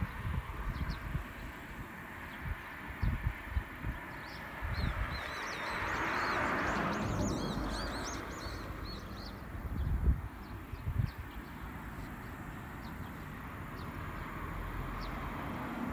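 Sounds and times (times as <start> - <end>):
small birds twittering: 0.0 - 15.9
wind buffeting microphone: 0.0 - 15.9.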